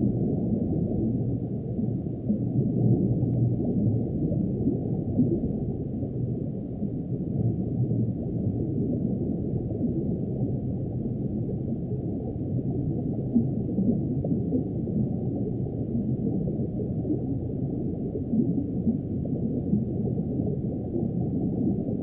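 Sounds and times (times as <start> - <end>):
muffled underwater wash: 0.0 - 22.0.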